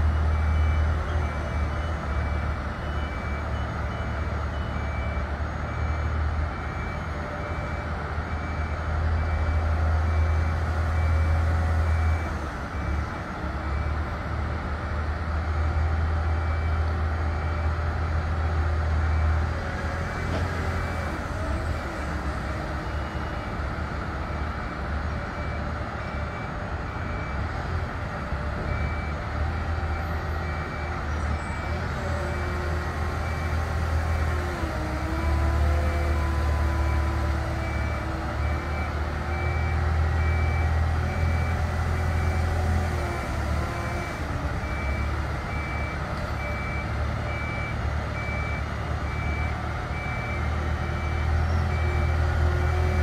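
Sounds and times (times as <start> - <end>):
diesel engine rumbling under load: 0.0 - 53.0.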